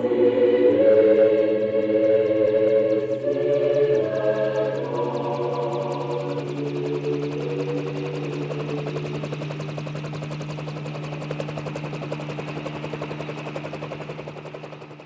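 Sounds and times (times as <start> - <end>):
fast even pulsing: 0.0 - 15.0
low drone: 0.0 - 15.0.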